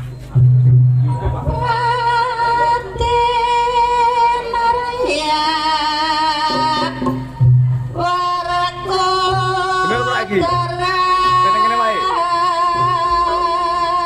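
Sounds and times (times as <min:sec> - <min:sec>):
woman singing long notes: 0:01.5 - 0:14.0.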